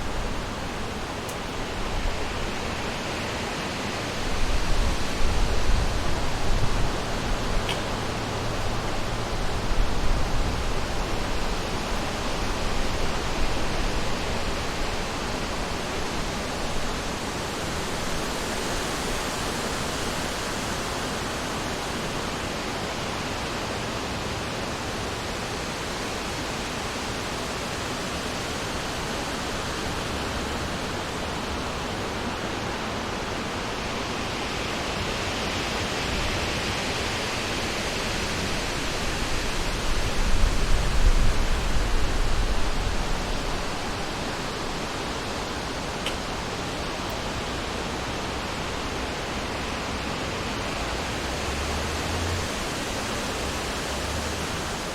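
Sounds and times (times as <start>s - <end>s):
wind rushing through tree leaves: 0.0s - 54.9s.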